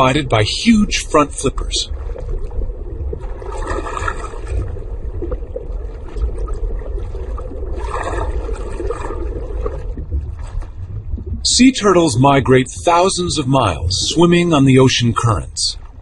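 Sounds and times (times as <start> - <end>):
underwater rush of moving water: 0.0 - 15.4.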